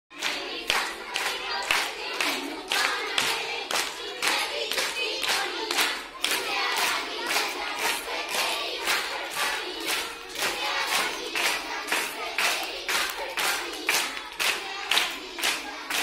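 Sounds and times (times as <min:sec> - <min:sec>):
hands clapping in time: 0:00.1 - 0:16.0
women singing together: 0:00.1 - 0:16.0.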